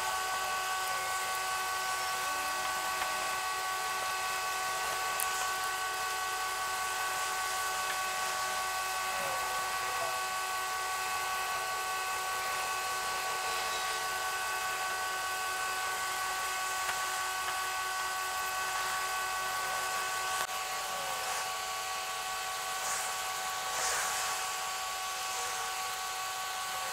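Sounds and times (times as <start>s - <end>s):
sped-up engine whine: 0.0s - 26.9s.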